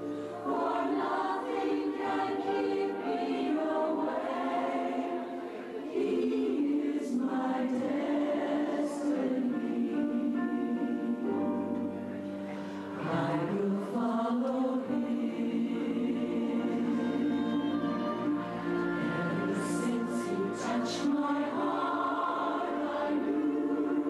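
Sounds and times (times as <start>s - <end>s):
choir singing in harmony: 0.0s - 24.0s.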